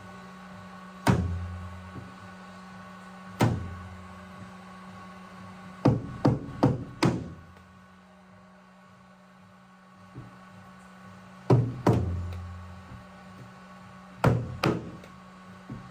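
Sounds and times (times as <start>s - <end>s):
steady hum: 0.0s - 15.9s.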